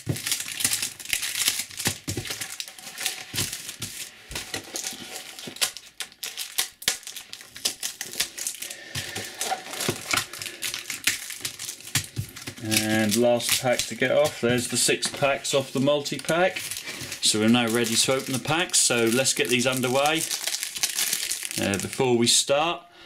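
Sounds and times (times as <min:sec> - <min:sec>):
foil packets crinkling: 0:00.0 - 0:22.2.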